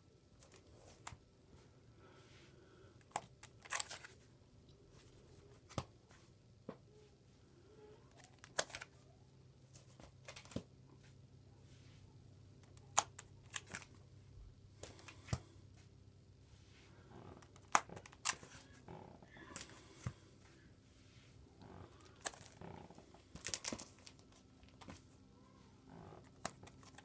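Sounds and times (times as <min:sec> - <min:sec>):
faint low hum: 0:00.0 - 0:27.0.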